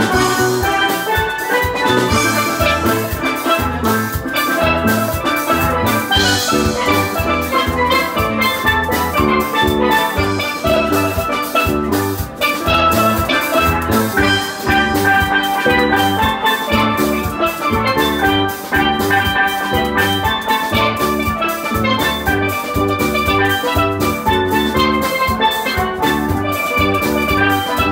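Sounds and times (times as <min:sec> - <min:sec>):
drum kit steady beat: 0:00.0 - 0:27.9
steel pans playing melody: 0:00.0 - 0:27.9
electric bass: 0:01.8 - 0:27.9.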